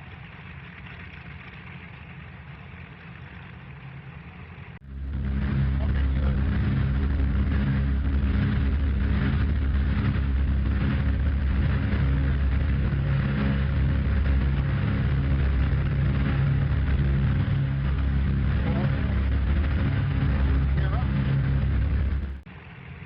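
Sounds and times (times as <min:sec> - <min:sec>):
propeller aircraft engines rumbling: 0:00.0 - 0:23.0.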